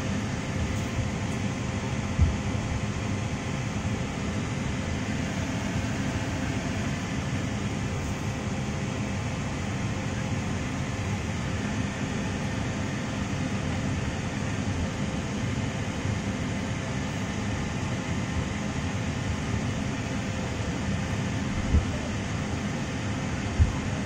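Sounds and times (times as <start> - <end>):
hum and rush of air: 0.0 - 24.0.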